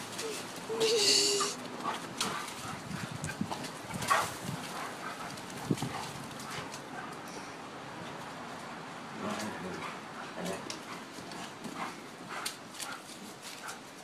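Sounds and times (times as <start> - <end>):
paws scuffling on dirt: 0.0 - 7.3, 8.1 - 14.0
dogs play-fighting: 0.0 - 14.0.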